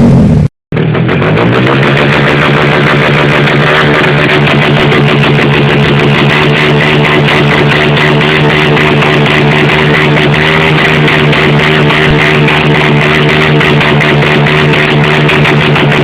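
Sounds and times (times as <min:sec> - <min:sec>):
motorcycle engine at rev limiter: 0:00.0 - 0:16.0.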